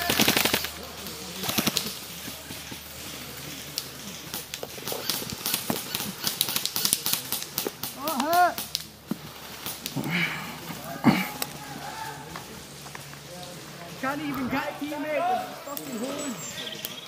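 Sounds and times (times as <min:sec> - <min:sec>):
grass and clothing rustling: 0:00.0 - 0:17.0.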